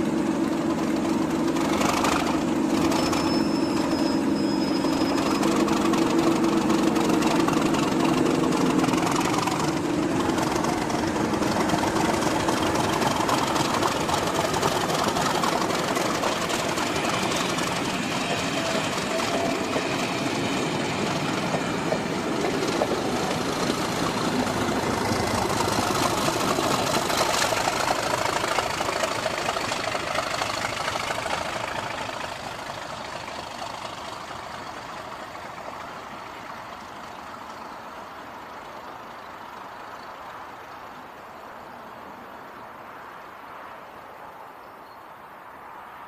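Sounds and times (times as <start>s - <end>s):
train wheel noise: 0.0s - 40.4s
diesel locomotive engine running: 0.0s - 40.5s.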